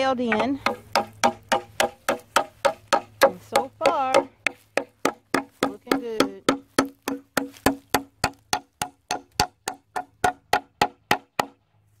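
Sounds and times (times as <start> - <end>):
hammer driving nails into wood: 0.3 - 11.6.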